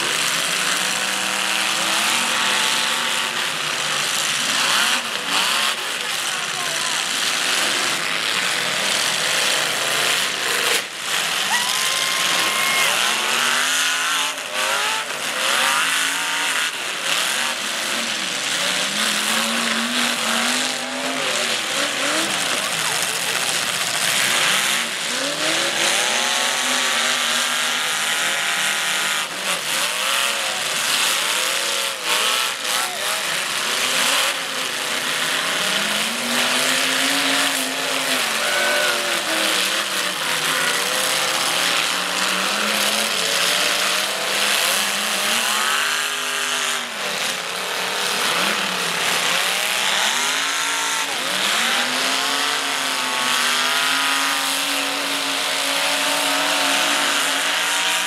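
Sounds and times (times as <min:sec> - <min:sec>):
car engines revving: 0:00.0 - 0:58.0
cars crashing: 0:00.0 - 0:58.0.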